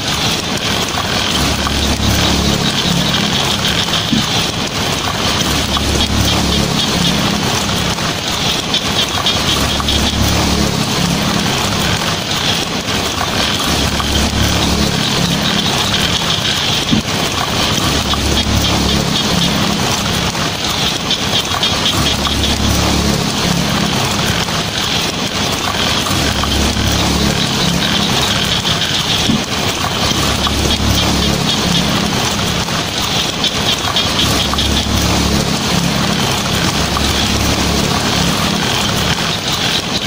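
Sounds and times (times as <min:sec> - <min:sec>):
low rumble: 0:00.0 - 0:39.6
heavy rain on a tin roof: 0:00.0 - 0:40.0.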